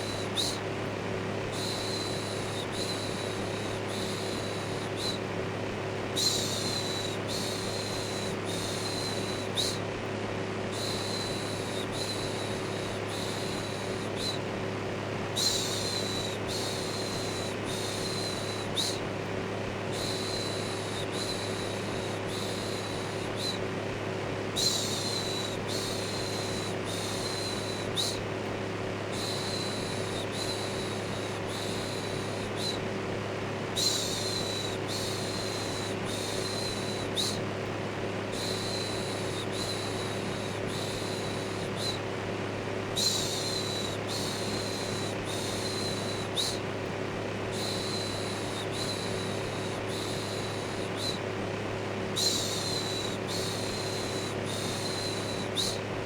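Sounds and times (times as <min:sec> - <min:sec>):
electric fan humming: 0:00.0 - 0:56.0.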